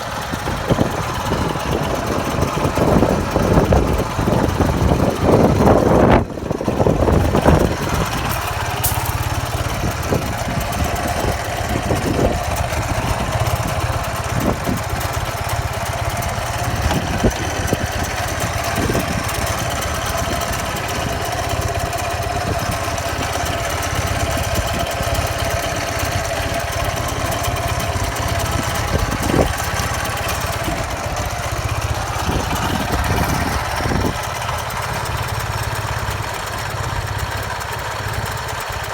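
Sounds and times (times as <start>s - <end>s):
light engine knocks: 0.0s - 38.9s
motorcycle engine idling: 0.0s - 38.9s.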